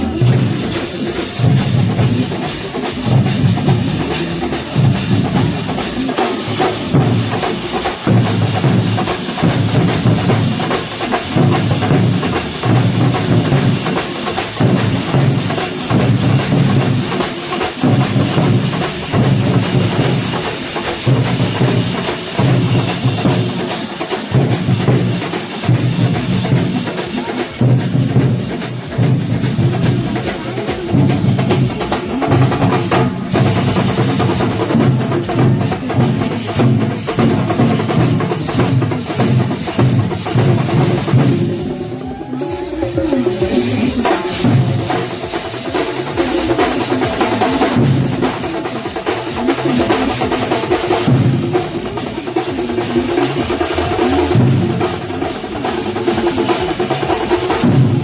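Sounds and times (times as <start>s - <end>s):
drum ensemble playing: 0.0s - 58.0s
heavy low drum beats: 0.0s - 58.0s.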